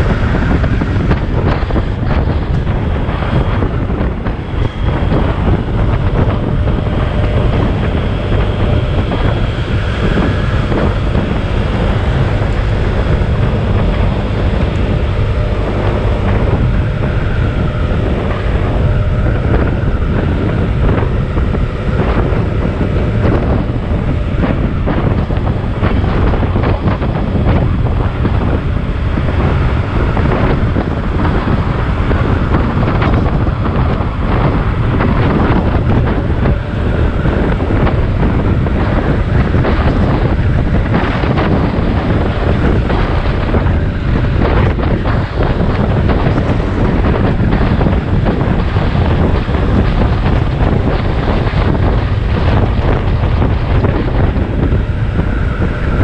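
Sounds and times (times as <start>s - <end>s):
scooter engine and tyre noise: 0.0s - 56.0s
wind buffeting microphone: 0.0s - 56.0s.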